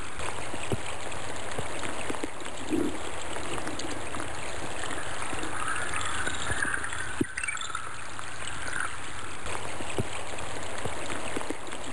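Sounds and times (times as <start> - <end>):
stream flowing: 0.0 - 11.9.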